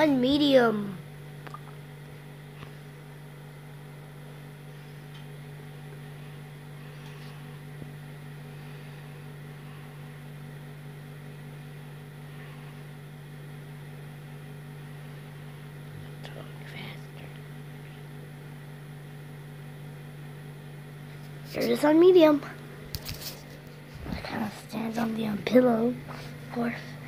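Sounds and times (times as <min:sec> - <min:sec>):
ceiling fan motor humming: 0:00.0 - 0:27.0.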